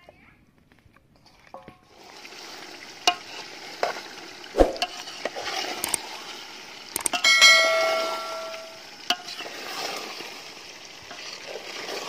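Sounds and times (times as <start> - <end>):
chicken sizzling in a pot: 1.2 - 12.0.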